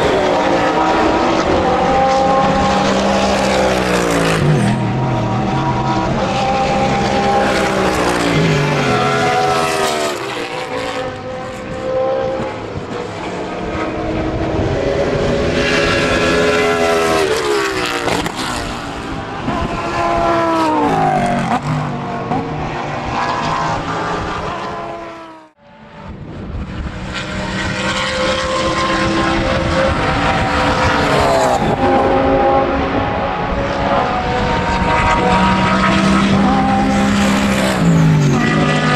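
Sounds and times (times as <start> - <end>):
race cars passing: 0.0 - 38.9.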